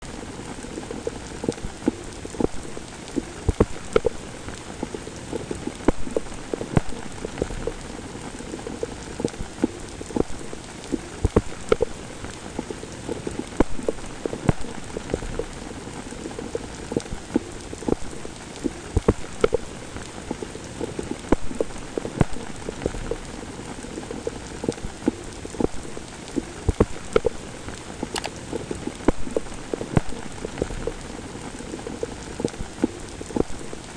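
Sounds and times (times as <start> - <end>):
rain drops striking a surface: 0.0 - 33.9.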